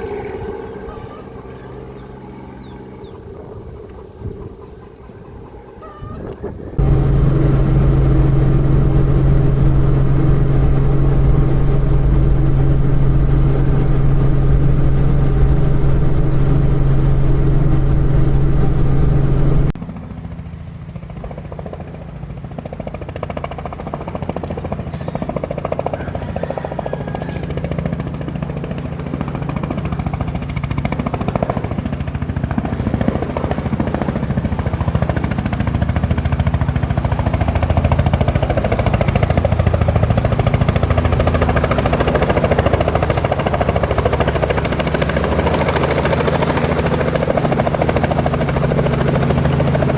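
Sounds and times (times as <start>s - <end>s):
helicopter engine and rotor: 0.0s - 5.7s, 6.7s - 49.9s.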